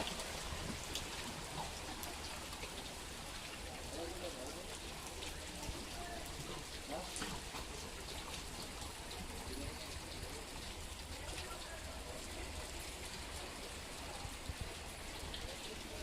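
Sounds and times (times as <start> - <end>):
rain patter: 0.0 - 16.0.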